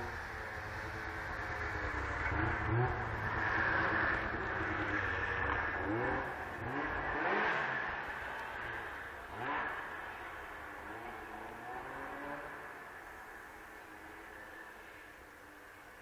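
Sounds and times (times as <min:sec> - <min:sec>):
snowmobile engine revving: 0:00.0 - 0:15.1.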